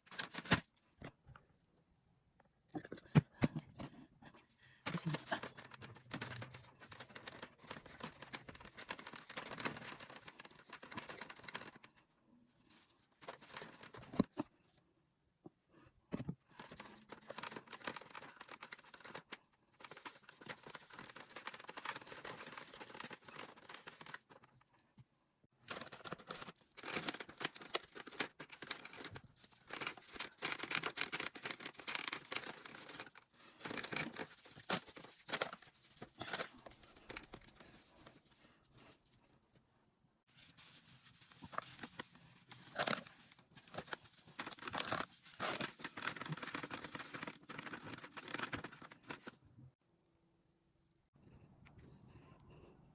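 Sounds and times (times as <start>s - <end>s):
rustling and crinkling handling noises: 0.0s - 1.2s, 4.4s - 14.9s, 16.2s - 49.5s.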